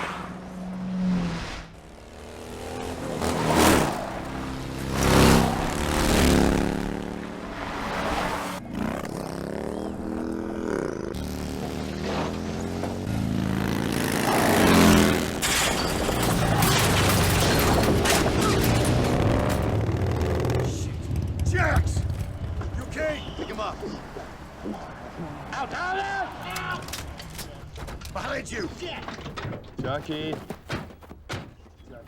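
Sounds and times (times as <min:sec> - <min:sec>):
vehicle engines revving past: 0:00.0 - 0:28.2.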